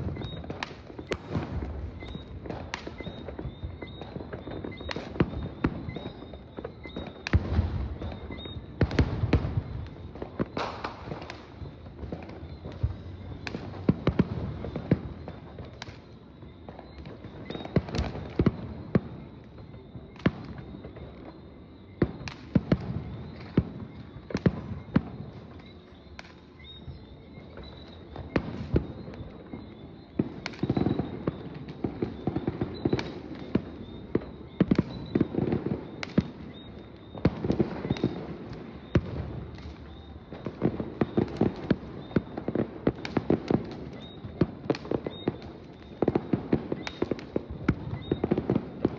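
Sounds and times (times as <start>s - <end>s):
fireworks bangs and bursts: 0.0s - 48.9s
fireworks crackling: 0.0s - 48.9s.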